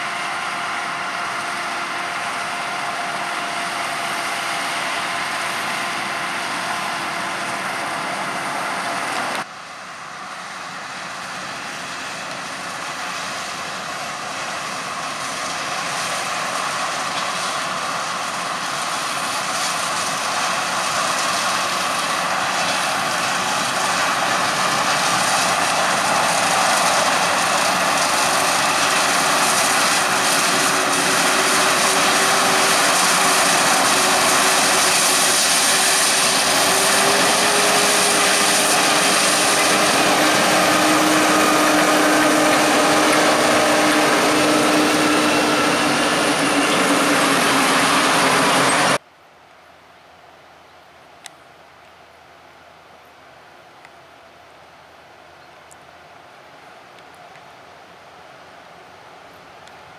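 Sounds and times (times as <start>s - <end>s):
forage harvester drone with hiss: 0.0s - 49.0s
steady machine whine: 0.0s - 49.0s.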